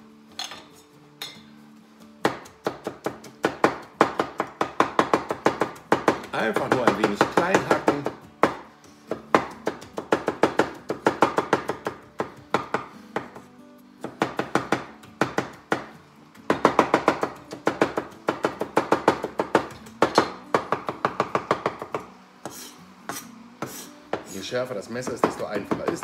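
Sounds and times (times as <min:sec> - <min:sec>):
knife chopping on wooden board: 0:02.2 - 0:15.9, 0:16.5 - 0:24.4, 0:25.0 - 0:26.0.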